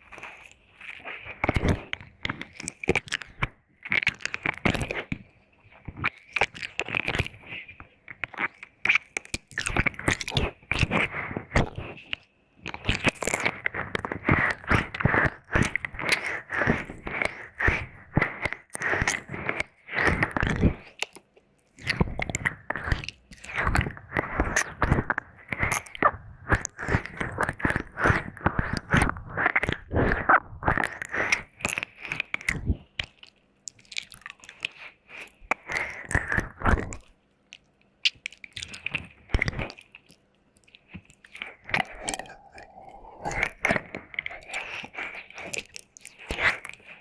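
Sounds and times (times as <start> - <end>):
wet mouth sounds: 0.0 - 47.0.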